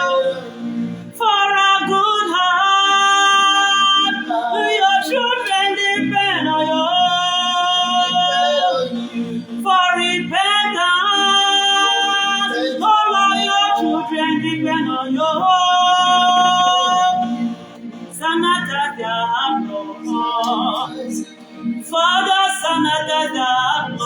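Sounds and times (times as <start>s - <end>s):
voices singing worship song: 0.0s - 24.0s.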